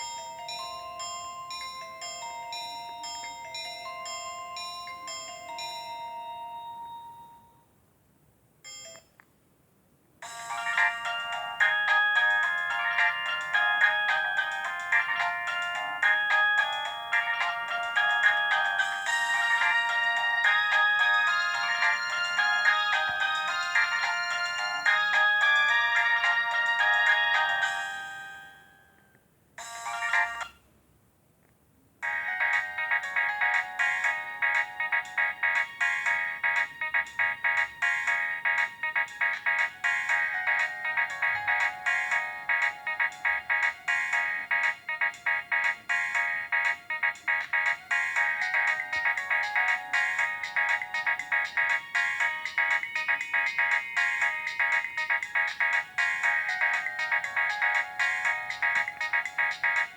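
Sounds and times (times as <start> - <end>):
busy ringtone melody: 0.0 - 7.7, 8.7 - 9.0, 10.2 - 29.0, 29.6 - 30.6, 32.0 - 59.9
chiming ringtone melody: 0.0 - 7.7, 8.6 - 9.1, 10.2 - 29.0, 29.6 - 30.6, 32.0 - 59.9.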